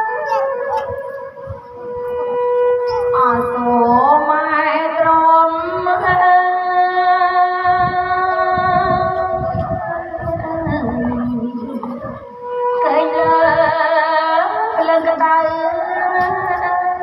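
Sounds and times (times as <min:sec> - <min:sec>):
instrumental accompaniment: 0:00.0 - 0:17.0
woman singing into microphone: 0:01.9 - 0:17.0.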